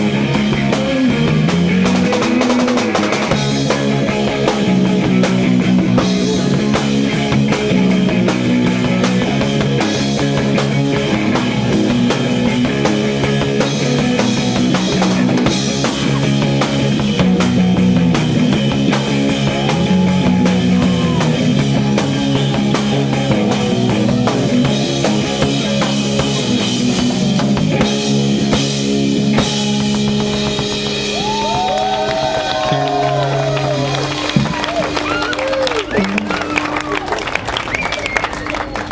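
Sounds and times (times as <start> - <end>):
drum kit: 0.0 - 37.4
electric guitars: 0.0 - 38.9.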